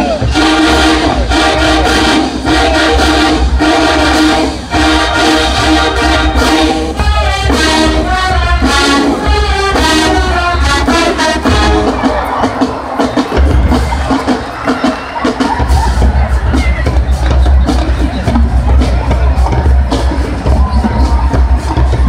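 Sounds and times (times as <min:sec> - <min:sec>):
brass horns: 0:00.0 - 0:22.0
drums: 0:00.0 - 0:22.0.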